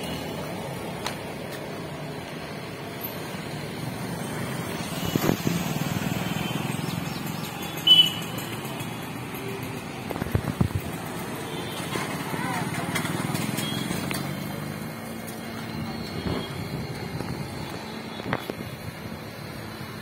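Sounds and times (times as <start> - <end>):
road traffic drone: 0.0 - 20.0.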